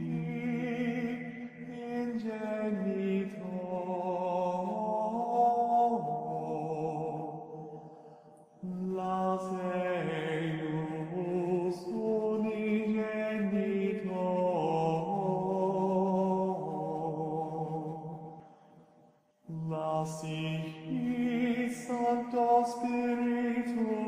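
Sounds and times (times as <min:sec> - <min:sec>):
slow chant-like music: 0:00.0 - 0:24.0.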